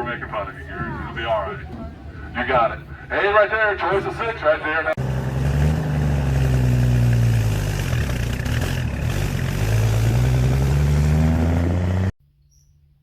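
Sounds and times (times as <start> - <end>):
engine running: 0.0 - 12.1.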